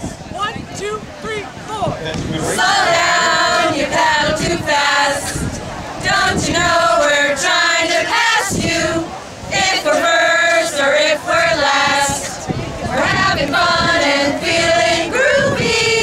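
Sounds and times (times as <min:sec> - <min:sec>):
women singing a cheer: 0:02.5 - 0:16.0.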